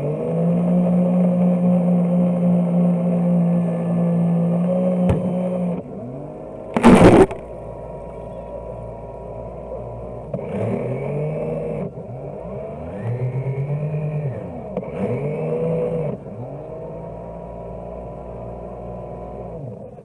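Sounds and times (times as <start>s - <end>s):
model boat motor whining: 0.0s - 20.0s.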